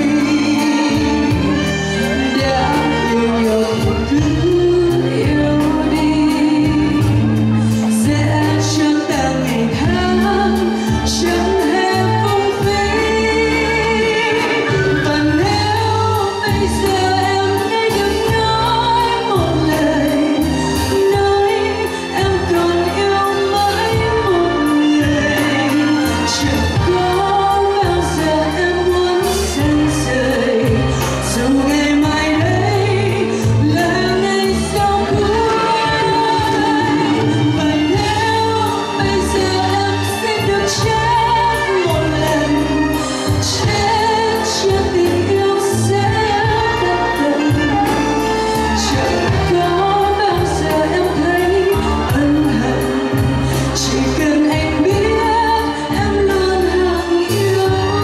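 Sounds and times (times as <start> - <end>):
bass notes: 0.0 - 58.0
woman singing into a microphone: 0.0 - 58.0.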